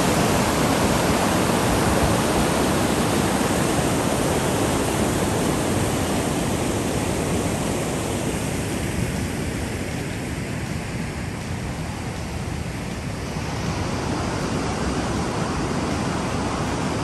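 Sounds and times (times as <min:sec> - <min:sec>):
river rapids rushing: 0:00.0 - 0:17.0.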